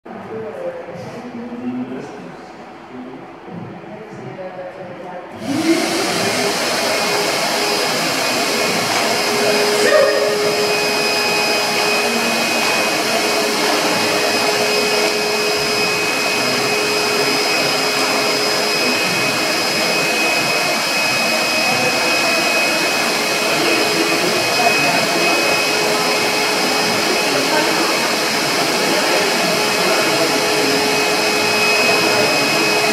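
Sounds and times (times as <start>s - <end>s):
vacuum cleaner motor running: 5.4s - 32.9s.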